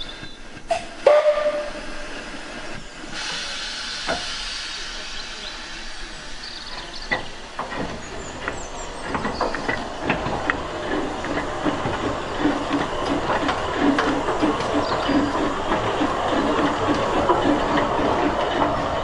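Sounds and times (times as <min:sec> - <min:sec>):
locomotive clanks: 0:00.0 - 0:19.0
steam hissing: 0:00.0 - 0:19.0
steam locomotive exhaust chuff: 0:00.0 - 0:19.0.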